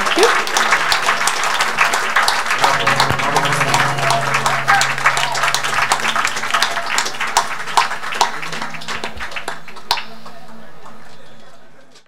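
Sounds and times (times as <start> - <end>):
audience applauding: 0.0 - 11.7
voices in crowd: 1.5 - 12.0.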